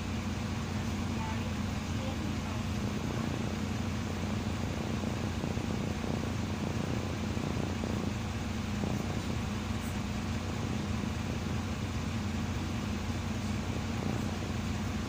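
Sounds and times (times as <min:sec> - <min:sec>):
bus diesel engine hum: 0:00.0 - 0:15.0.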